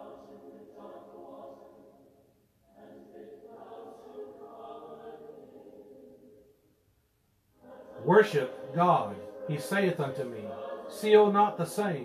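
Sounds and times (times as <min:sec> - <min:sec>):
faint choral singing: 0:00.0 - 0:12.0.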